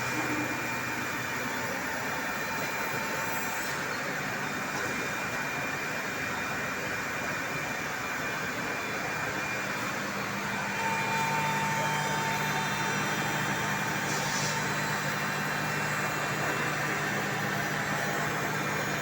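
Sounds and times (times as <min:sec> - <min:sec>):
cnc router whining: 0:00.0 - 0:19.0.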